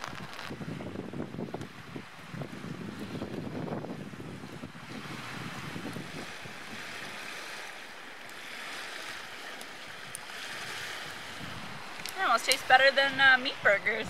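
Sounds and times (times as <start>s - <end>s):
waves on a lake: 0.0s - 14.0s.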